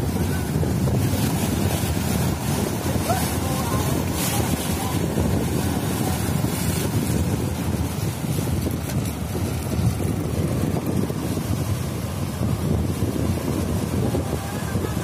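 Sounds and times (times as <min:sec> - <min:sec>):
waves breaking against rocks: 0:00.0 - 0:15.0
wind rumbling on microphone: 0:00.0 - 0:15.0.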